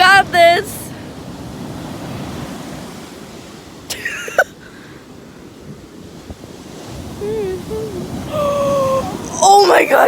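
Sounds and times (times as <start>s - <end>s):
waves breaking on beach: 0.0s - 10.0s.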